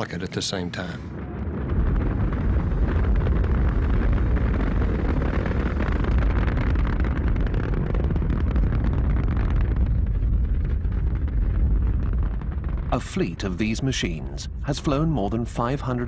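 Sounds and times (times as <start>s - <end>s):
rocket engines rumbling: 0.0s - 16.0s.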